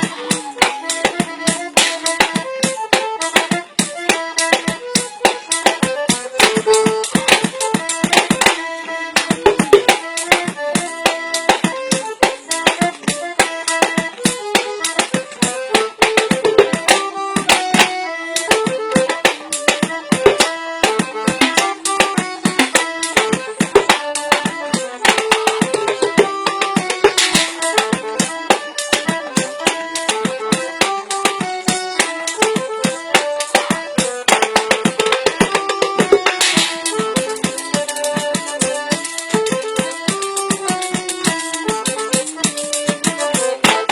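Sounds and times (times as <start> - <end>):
background music with melody: 0.0 - 43.9
drumming on tin cans: 0.0 - 43.9.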